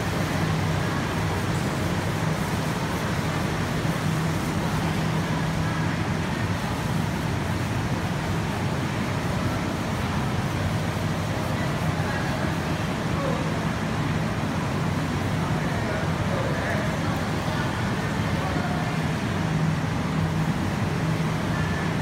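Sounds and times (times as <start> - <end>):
production line machinery running: 0.0 - 22.0.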